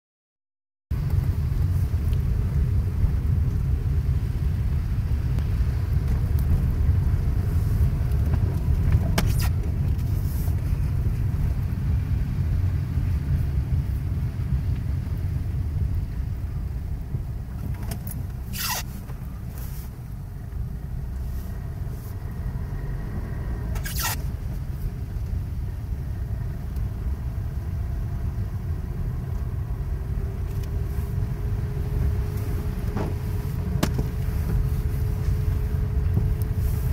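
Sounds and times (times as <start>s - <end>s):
car road rumble inside cabin: 0.9s - 36.9s.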